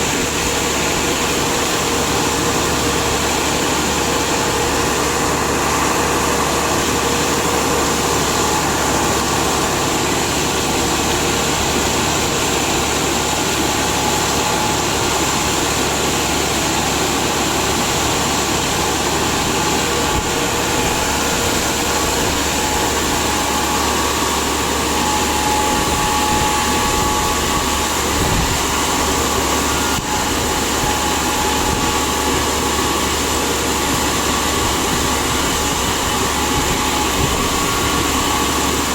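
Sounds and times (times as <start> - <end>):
drilling rig engine and machinery: 0.0 - 38.9.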